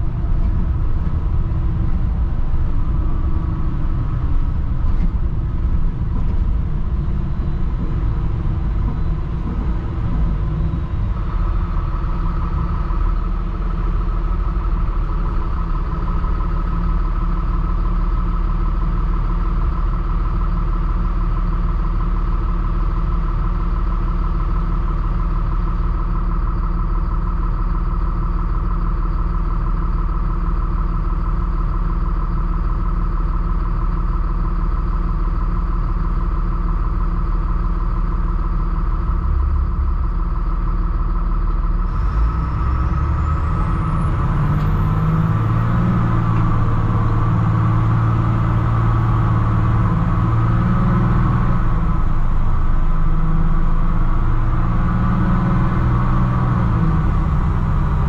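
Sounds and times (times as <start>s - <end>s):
diesel bus engine idling: 0.0s - 58.0s.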